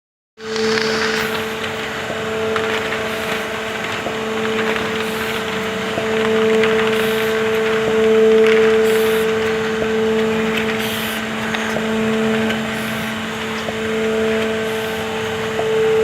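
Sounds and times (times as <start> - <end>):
machine motor hum: 0.4 - 16.0.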